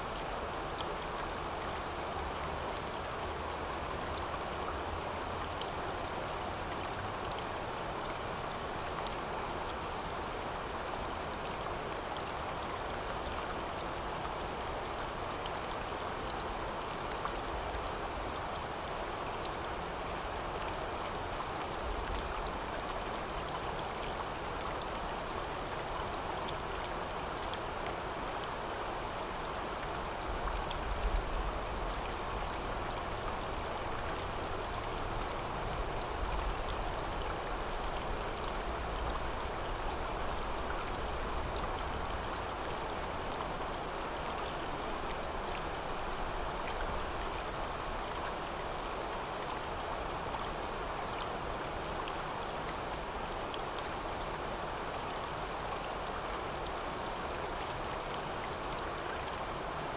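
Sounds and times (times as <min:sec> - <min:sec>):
river water babbling over stones: 0:00.0 - 0:59.9.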